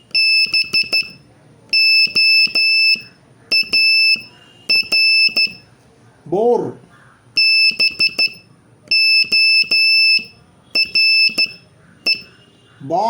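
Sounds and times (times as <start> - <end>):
morse code beeps: 0.0 - 5.7, 7.4 - 12.4.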